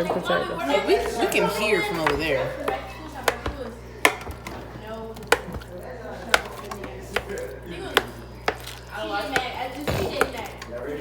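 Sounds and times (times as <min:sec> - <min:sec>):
utensil mashing in a bowl: 0:00.0 - 0:11.0
utensil knocking against bowl: 0:01.0 - 0:04.6, 0:05.2 - 0:10.7.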